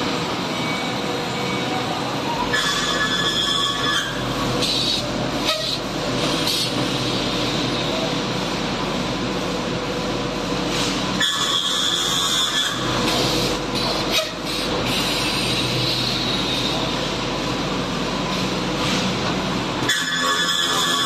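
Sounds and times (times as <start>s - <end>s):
industrial machinery rumble: 0.0s - 21.0s
machinery high whine: 0.0s - 21.0s.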